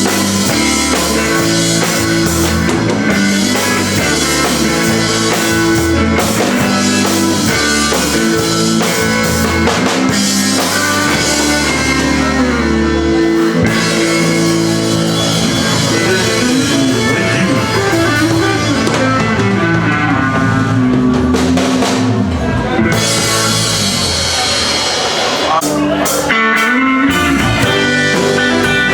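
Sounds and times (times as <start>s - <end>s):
drum kit: 0.0s - 28.9s
guitar: 0.0s - 28.9s.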